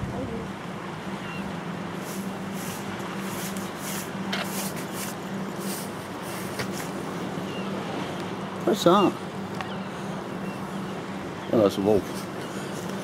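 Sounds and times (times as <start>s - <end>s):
constant low hum: 0.0s - 13.0s
sea noise: 0.0s - 13.0s
wind: 0.0s - 13.0s.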